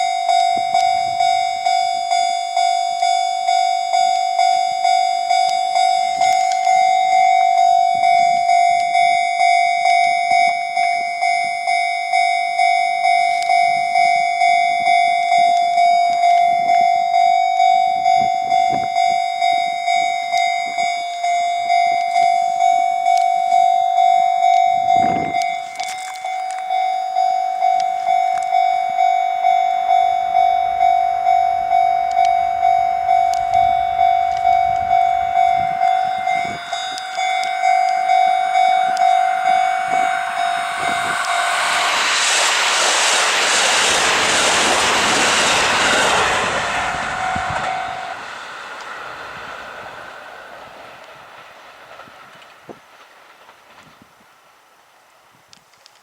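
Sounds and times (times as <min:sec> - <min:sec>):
level-crossing bell clanging: 0:00.0 - 0:52.5
train rumbling past: 0:00.0 - 0:55.3.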